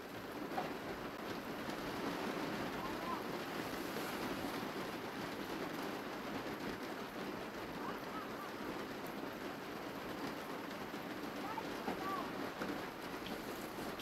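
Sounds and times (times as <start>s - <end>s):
steady outdoor rushing noise: 0.0s - 14.0s.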